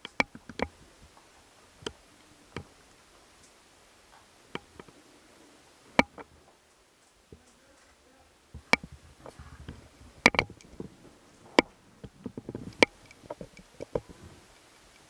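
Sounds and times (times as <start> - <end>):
faint clicks and knocks: 0.0 - 5.0, 5.9 - 15.0.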